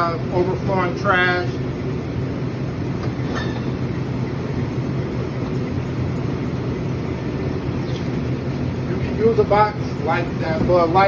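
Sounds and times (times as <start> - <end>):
refrigeration hum and fan rush: 0.0 - 11.0.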